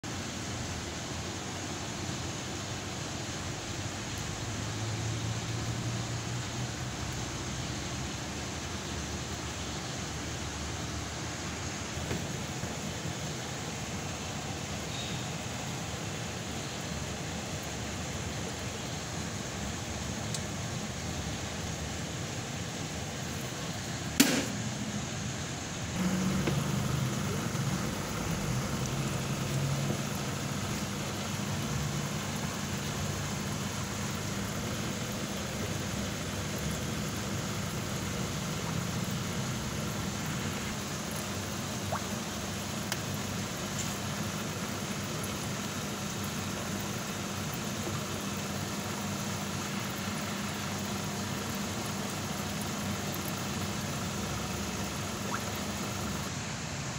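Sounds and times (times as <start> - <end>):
aquarium equipment hum: 0.0 - 56.9
water noise: 3.7 - 56.5.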